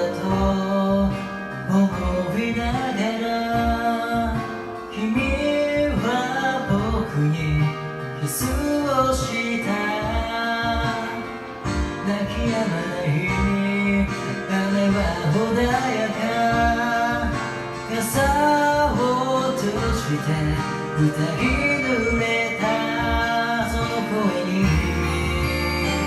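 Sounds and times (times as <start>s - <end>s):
guitar accompaniment: 0.0s - 26.0s
person singing: 0.0s - 26.0s.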